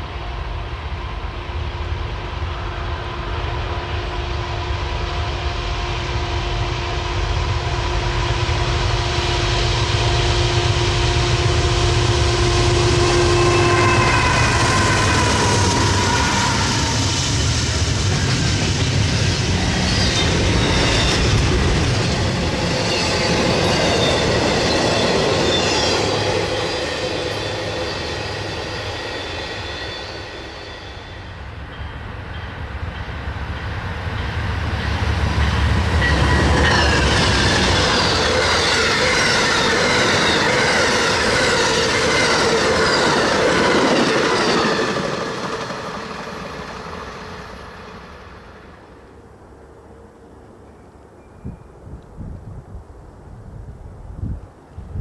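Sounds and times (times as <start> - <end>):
train wheel squeal: 2.5 - 49.1.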